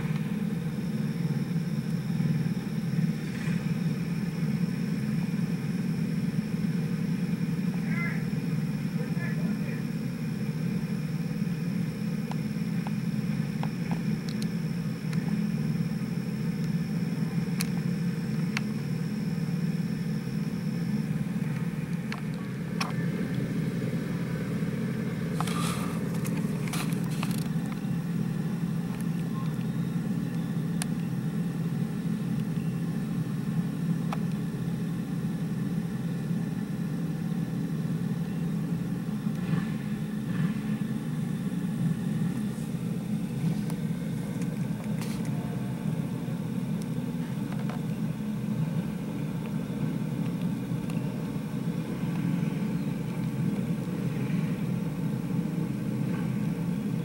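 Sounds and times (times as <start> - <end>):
go-kart engines droning: 0.0 - 57.0.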